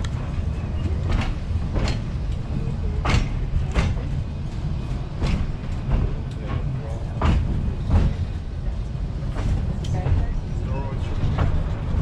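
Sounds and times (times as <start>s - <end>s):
train car rumbling on track: 0.0s - 12.0s
wheels clacking over rail joints: 0.0s - 12.0s.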